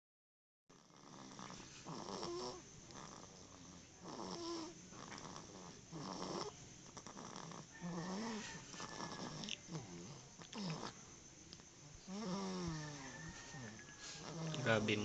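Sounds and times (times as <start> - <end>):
whistling snoring: 0.8 - 11.0, 12.0 - 15.0.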